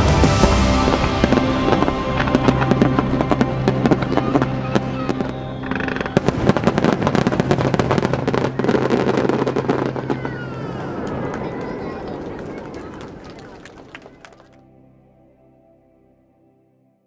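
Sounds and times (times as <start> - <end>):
fireworks bursting and crackling: 0.0 - 14.6.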